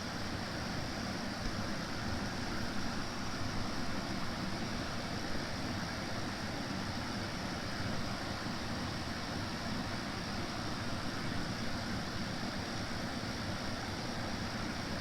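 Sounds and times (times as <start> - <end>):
air conditioner fan noise: 0.0 - 15.0.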